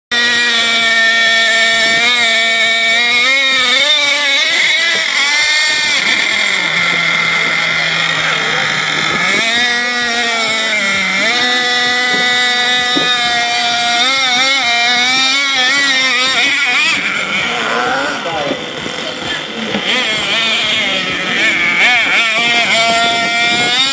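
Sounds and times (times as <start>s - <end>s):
toy truck engine revving: 0.1s - 23.9s.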